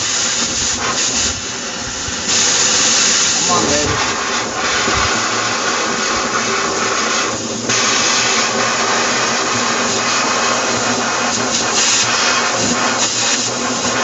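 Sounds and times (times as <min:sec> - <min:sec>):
cutting torch hissing: 0:00.0 - 0:14.0.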